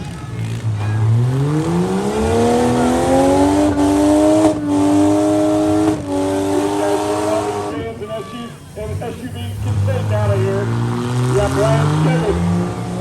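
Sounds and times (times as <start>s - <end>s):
car engine revving hard: 0.0s - 8.1s, 8.7s - 13.0s.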